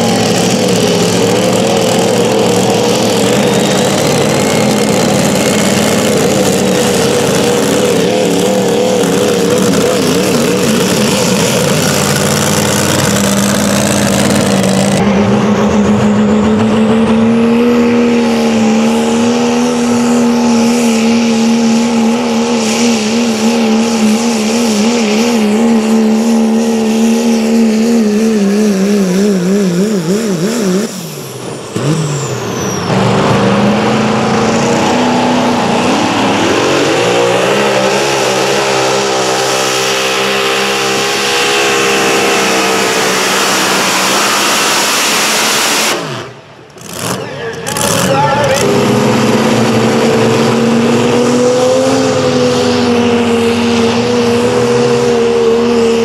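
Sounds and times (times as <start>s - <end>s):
another engine revving: 0.0s - 56.0s
engine at high revs: 0.0s - 56.0s.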